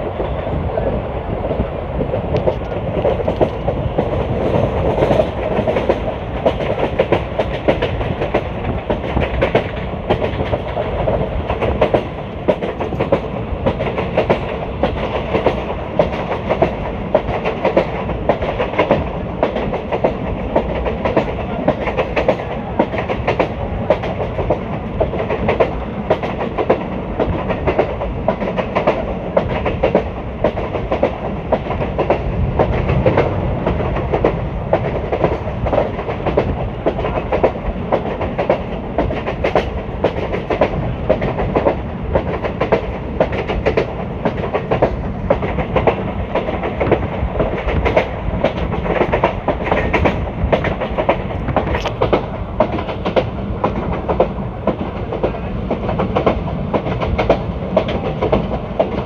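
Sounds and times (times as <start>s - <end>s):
train wheels rumbling on rails: 0.0s - 59.0s
wheels clicking over rail joints: 2.0s - 59.0s.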